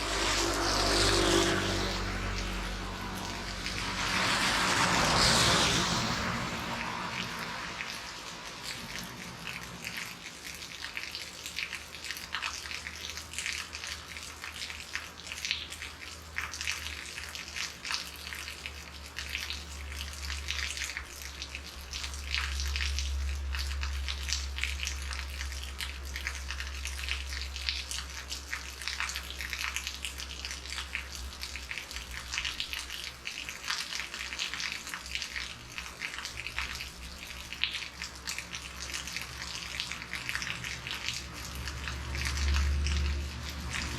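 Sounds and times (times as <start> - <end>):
heavy rain falling: 0.0 - 12.5, 19.2 - 43.9.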